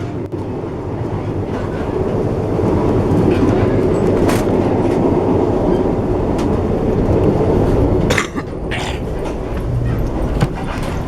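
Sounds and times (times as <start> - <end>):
train rumble from aboard: 0.0 - 11.0.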